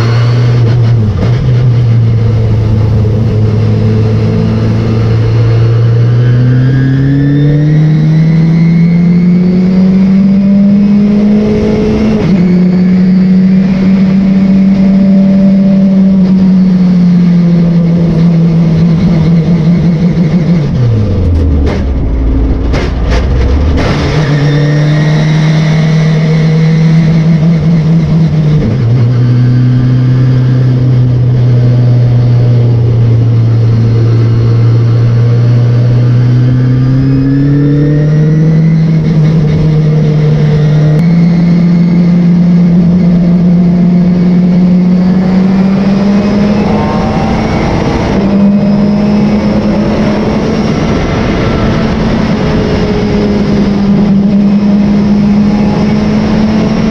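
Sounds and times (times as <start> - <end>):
race car engine running hard: 0.0 - 56.9.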